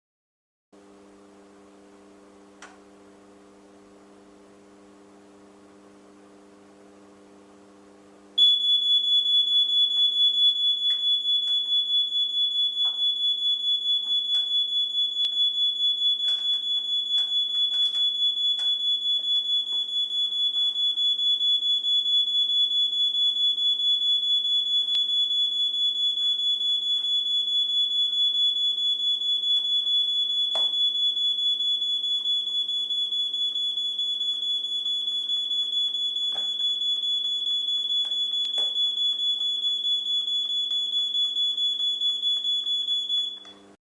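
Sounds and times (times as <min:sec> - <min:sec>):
fire alarm high-pitched tone: 0:08.4 - 0:43.6.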